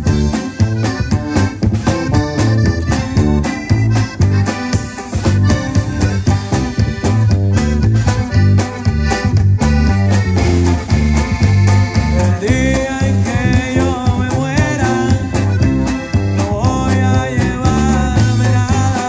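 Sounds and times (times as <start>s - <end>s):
button accordion melody: 0.0s - 19.0s
drum kit: 0.0s - 19.0s
electric bass: 0.0s - 19.0s
electric guitar: 0.0s - 19.0s.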